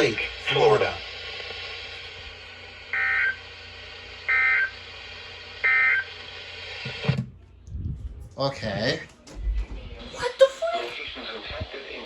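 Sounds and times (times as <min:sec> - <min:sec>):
radio hiss: 0:00.0 - 0:07.2, 0:08.4 - 0:12.0.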